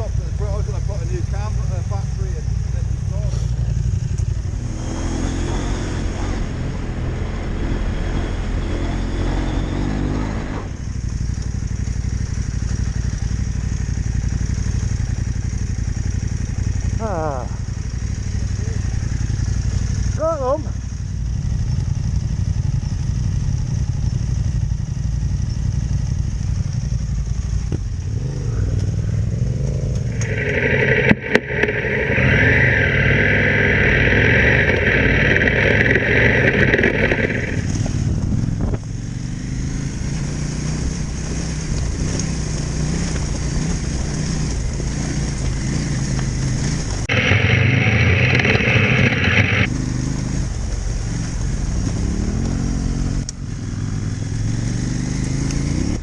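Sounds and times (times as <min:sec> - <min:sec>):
motorcycle engine running: 0:00.0 - 0:10.1, 0:10.7 - 0:56.0.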